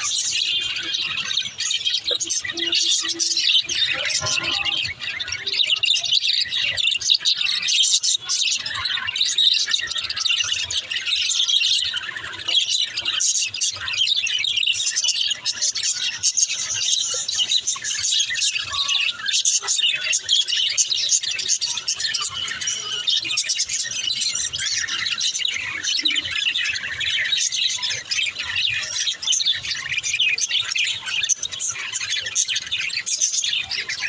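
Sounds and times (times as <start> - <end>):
budgerigars chattering: 0.0 - 34.0.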